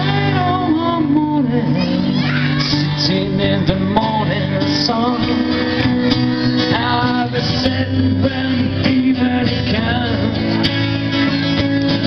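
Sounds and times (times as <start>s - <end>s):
live pop song: 0.0s - 12.0s
strummed acoustic guitar: 0.0s - 12.0s.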